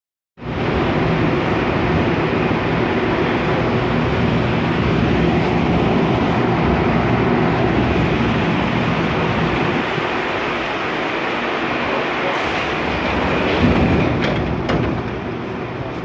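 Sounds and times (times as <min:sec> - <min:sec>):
train rumbling on rails: 0:00.4 - 0:16.0.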